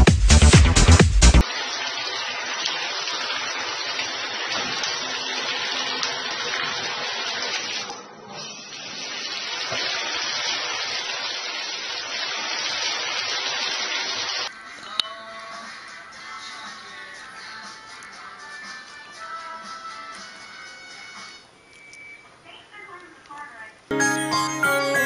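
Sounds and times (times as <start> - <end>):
water spraying from shower head: 0.4 - 21.5.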